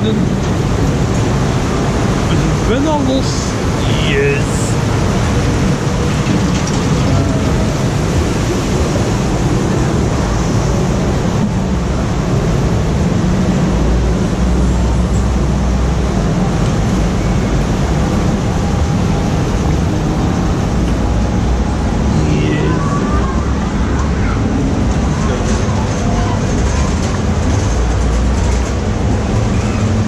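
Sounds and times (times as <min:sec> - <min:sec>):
water rushing down a channel: 0:00.0 - 0:30.0.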